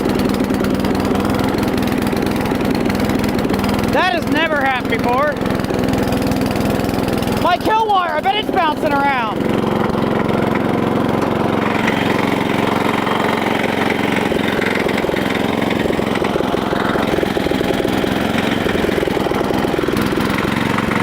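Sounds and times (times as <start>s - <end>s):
lawn tractor engine running: 0.0s - 21.0s.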